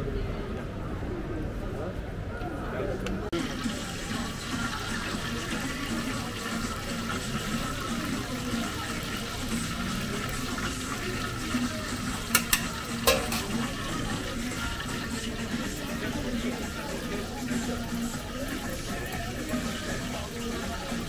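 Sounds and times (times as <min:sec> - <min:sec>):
food frying sizzle: 0:03.4 - 0:21.0.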